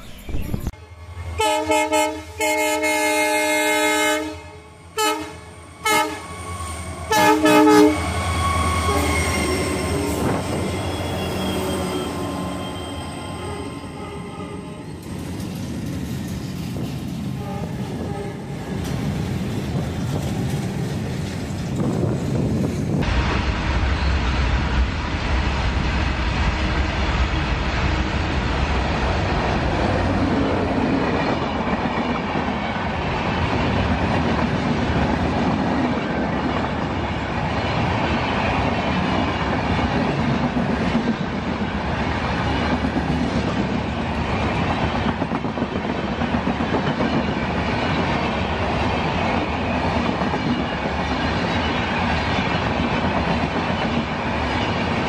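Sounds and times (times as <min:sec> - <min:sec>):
passenger train rushing past: 0:00.0 - 0:55.0.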